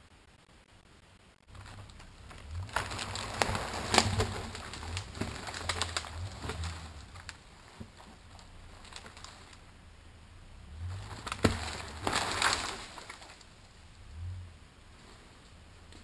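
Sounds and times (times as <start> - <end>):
low steady hum: 0.0 - 16.0
log dragged through branches: 1.5 - 9.7, 10.6 - 16.0.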